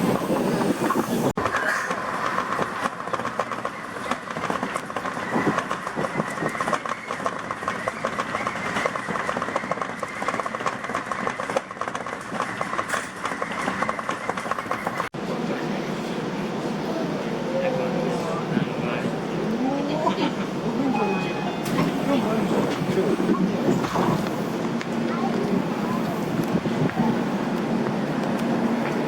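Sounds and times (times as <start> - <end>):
train rolling: 0.0 - 29.0.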